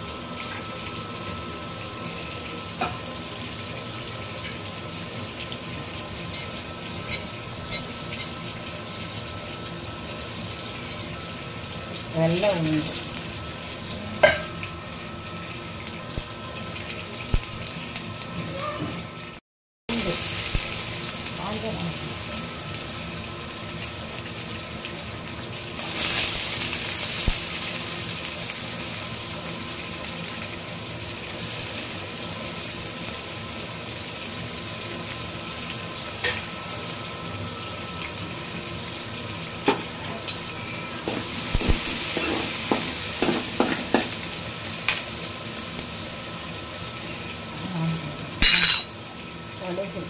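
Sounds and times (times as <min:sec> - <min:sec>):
onions sizzling in oil: 0:00.0 - 0:50.0.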